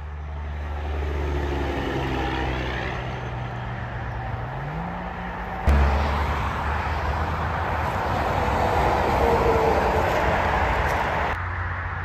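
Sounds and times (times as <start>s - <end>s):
truck diesel engine passing: 0.0s - 11.4s.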